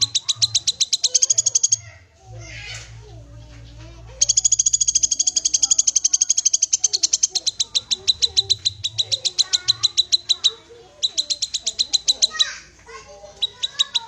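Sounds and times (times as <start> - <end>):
bird call rapid trill: 0.0 - 1.9, 4.2 - 14.0.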